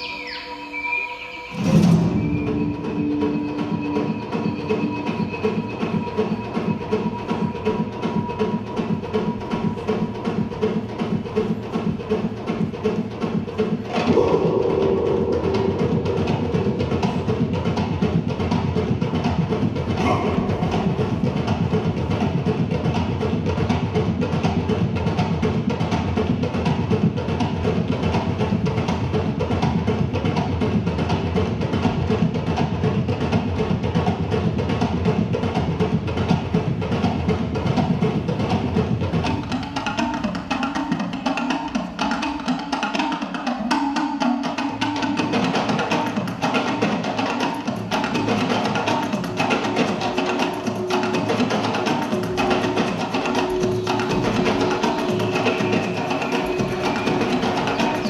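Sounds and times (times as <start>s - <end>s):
percussion background music: 0.0s - 58.0s.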